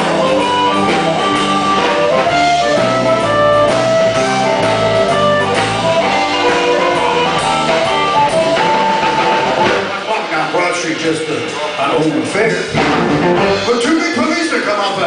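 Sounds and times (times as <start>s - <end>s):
bass line: 0.0s - 10.6s, 11.4s - 14.4s
drum kit: 0.0s - 15.0s
guitar: 0.0s - 15.0s.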